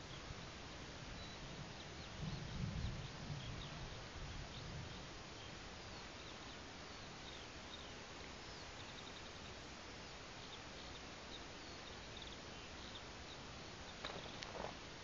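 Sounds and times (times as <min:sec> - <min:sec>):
faint bird chirps: 0:00.0 - 0:14.8
steady background hiss: 0:00.0 - 0:15.0.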